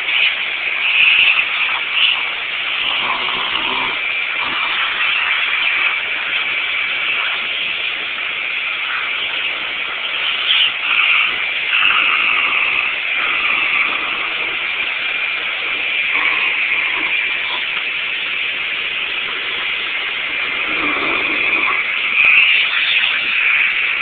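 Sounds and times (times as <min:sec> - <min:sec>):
vacuum cleaner whine and suction: 0:00.0 - 0:24.0.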